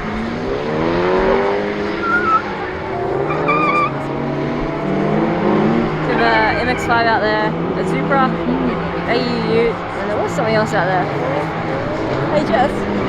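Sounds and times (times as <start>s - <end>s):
car engines revving: 0.0s - 13.0s
high tyre squeals: 0.0s - 13.0s.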